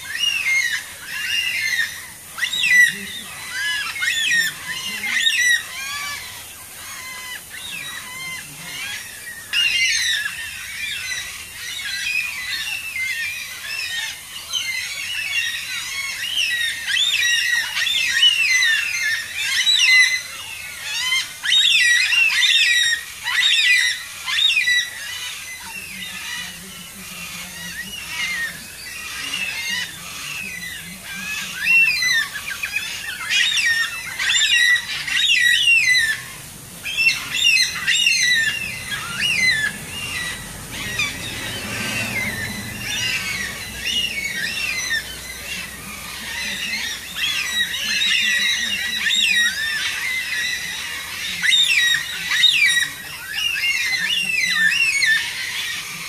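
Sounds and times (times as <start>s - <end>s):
flock of cockatoos calling: 0.0s - 56.0s.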